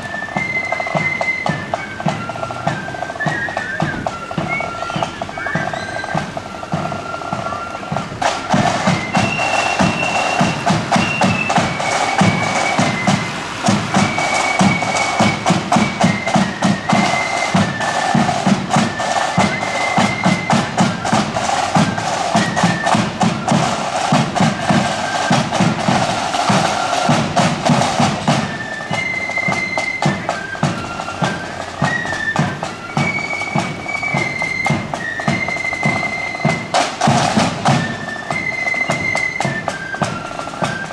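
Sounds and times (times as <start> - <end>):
bass and side drums beating: 0.0 - 40.9
flute melody: 0.0 - 40.9.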